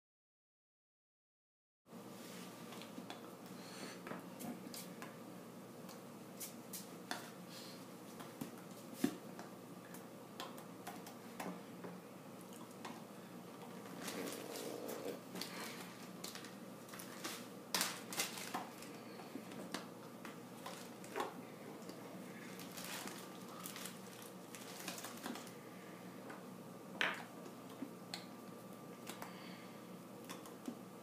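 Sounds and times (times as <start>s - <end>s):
faint steady hum: 1.9s - 31.0s.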